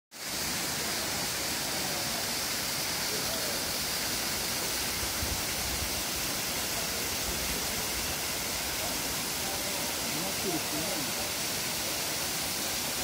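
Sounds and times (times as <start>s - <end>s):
waterfall rushing: 0.2s - 13.0s.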